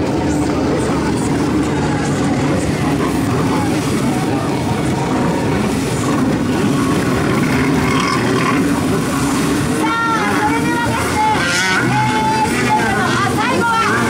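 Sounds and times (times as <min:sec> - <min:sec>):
other watercraft engines: 0:00.0 - 0:14.0
watercraft engine running hard: 0:00.0 - 0:14.0.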